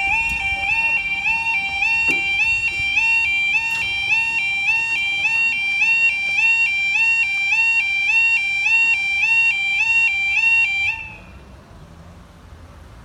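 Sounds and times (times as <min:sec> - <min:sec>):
level crossing alarm warbling: 0:00.0 - 0:11.2.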